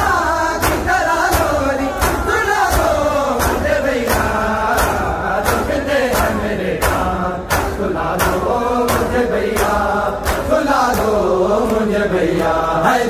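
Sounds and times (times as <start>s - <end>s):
men chanting a lament: 0.0s - 13.0s
hands slapping chests: 0.2s - 12.8s.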